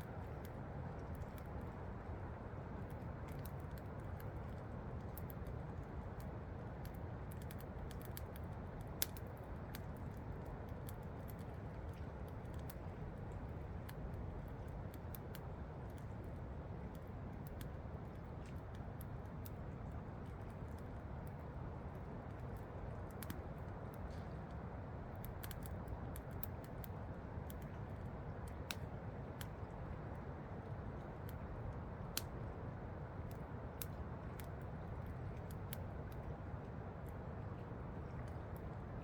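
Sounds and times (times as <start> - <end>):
campfire crackling: 0.0 - 24.0, 25.0 - 39.0.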